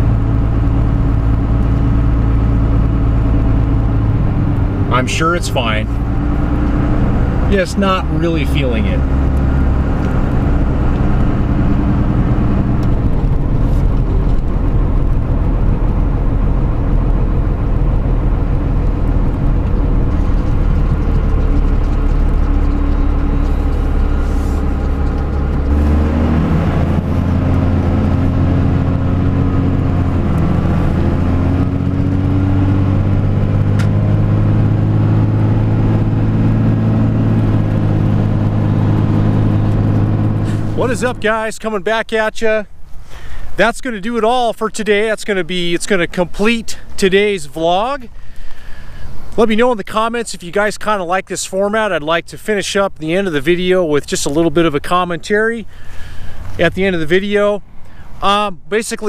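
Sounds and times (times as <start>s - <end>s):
truck engine: 0.0s - 51.1s, 51.8s - 59.0s
road noise: 0.0s - 59.0s.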